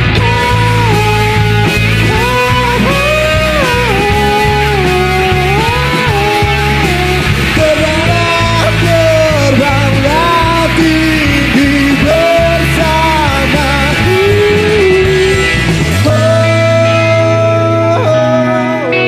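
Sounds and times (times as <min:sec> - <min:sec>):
guitar: 0:00.0 - 0:19.0
low bass: 0:00.0 - 0:19.0
man singing: 0:00.0 - 0:19.0.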